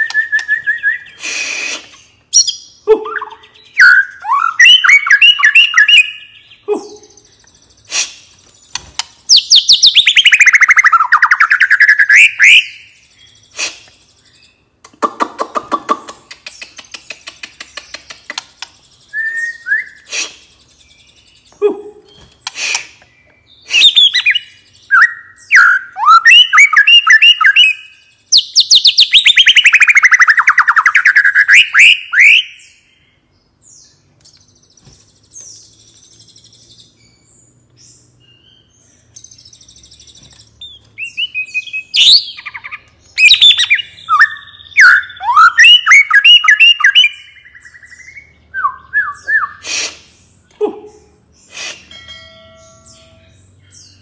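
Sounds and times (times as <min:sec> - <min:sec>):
songbird whistling and trilling: 0:00.0 - 0:14.7, 0:17.8 - 0:33.0, 0:33.6 - 0:50.0.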